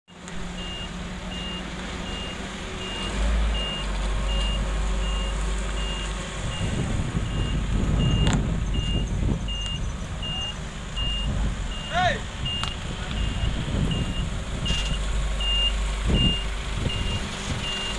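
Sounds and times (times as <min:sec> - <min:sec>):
diesel engines running: 0:00.1 - 0:17.9
dump truck passing: 0:00.1 - 0:17.9
reversing alarm beeping: 0:00.5 - 0:17.9.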